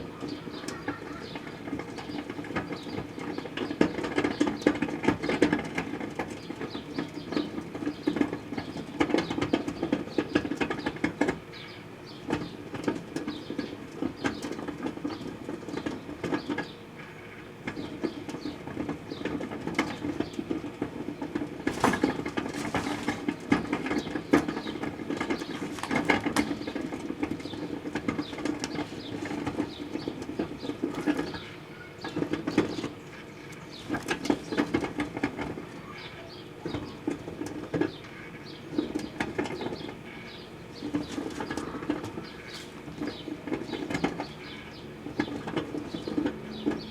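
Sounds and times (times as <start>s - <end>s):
microwave oven humming: 0.0s - 46.9s.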